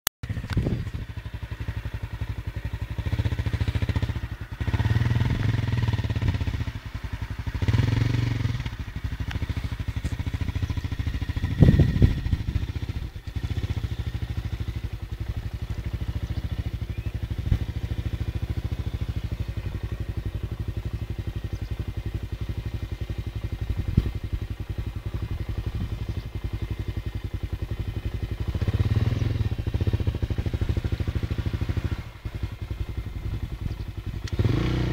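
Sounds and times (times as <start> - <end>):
quad engine revving: 0.2 - 34.9.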